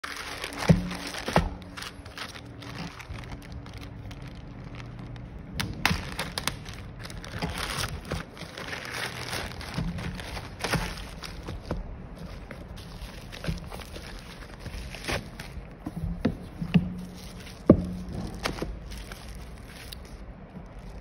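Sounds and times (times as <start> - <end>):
plastic bag crinkling and ripping: 0.0 - 15.8, 17.0 - 21.0.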